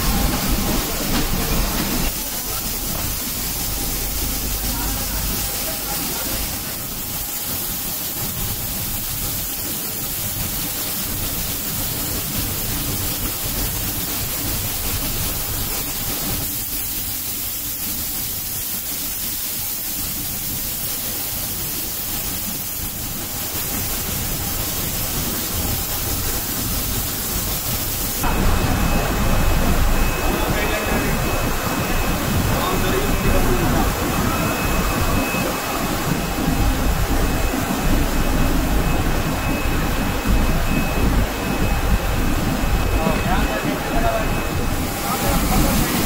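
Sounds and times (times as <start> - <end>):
low machine noise: 0.0 - 46.0
spray machine hissing: 0.0 - 46.0.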